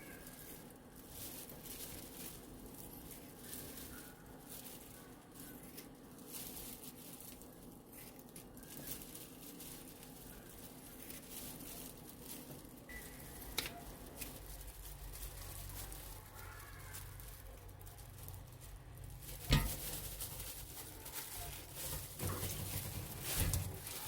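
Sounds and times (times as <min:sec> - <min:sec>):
soft handling noises: 0:00.0 - 0:24.0
squishy pattering sounds: 0:00.0 - 0:24.0.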